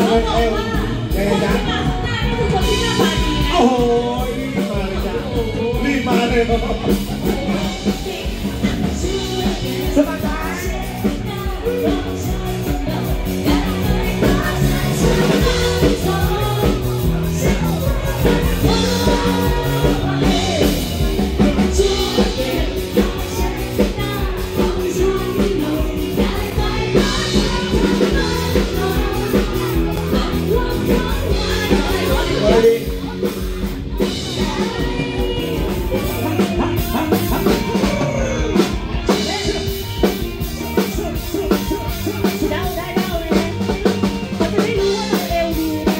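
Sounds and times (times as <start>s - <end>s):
drum kit: 0.0s - 45.9s
electric guitar: 0.0s - 45.9s
person singing lead vocal: 0.0s - 45.9s.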